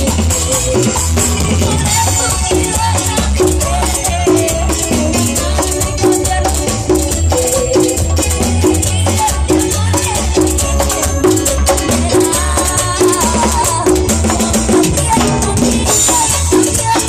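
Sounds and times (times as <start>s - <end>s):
mid-range melody line: 0.0s - 17.0s
pulsing bass line: 0.0s - 17.0s
shaker percussion: 0.0s - 17.0s.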